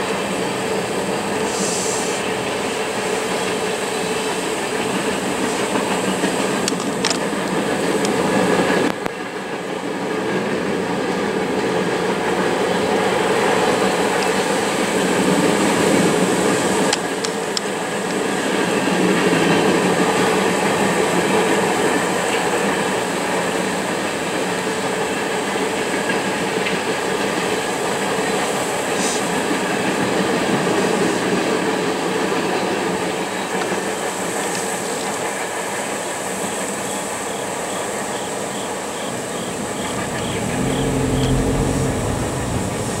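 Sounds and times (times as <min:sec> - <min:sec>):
freight train wheels clattering on rail: 0:00.0 - 0:43.0.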